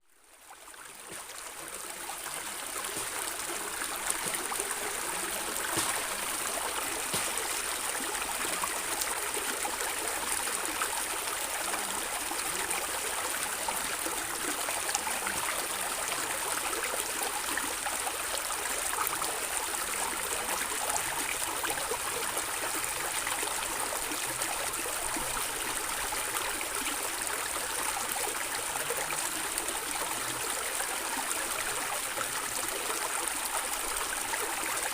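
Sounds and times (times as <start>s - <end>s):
stream gurgling over stones: 0.1s - 34.9s.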